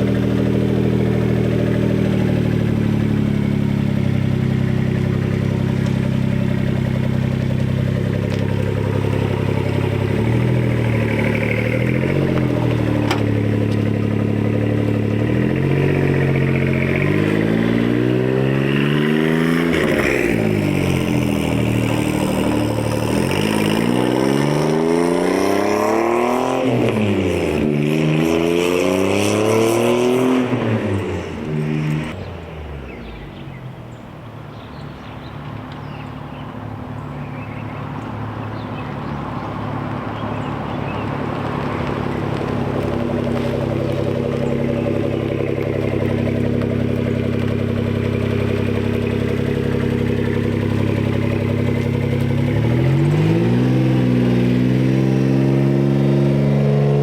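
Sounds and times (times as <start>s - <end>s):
small truck engine revving: 0.0s - 57.0s.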